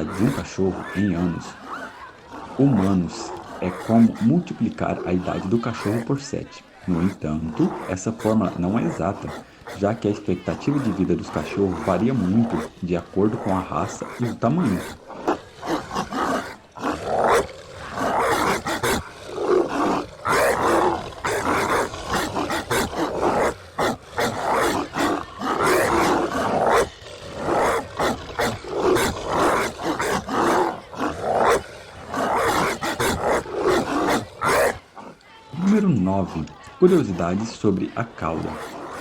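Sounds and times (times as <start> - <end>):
dogs barking: 0.0 - 39.0
dogs growling: 0.0 - 39.0.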